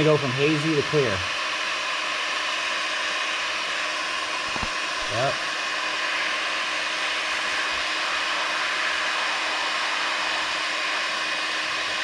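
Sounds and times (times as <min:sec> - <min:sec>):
heat gun blowing air: 0:00.0 - 0:12.0.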